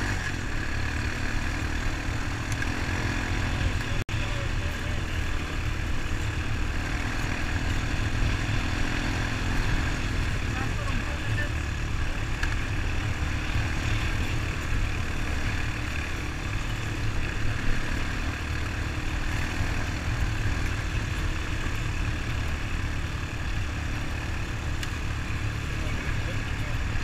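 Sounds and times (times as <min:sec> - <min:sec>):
atv engine running: 0:00.0 - 0:27.0
constant rushing noise: 0:00.0 - 0:27.0.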